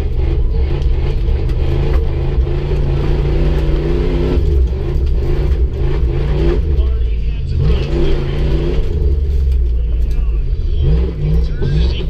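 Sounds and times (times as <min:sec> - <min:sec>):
truck engine running at low revs: 0:00.0 - 0:12.0.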